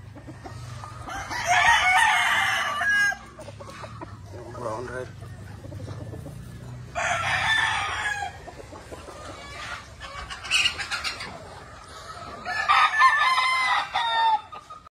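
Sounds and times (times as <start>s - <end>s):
roosters crowing: 0.0s - 14.9s.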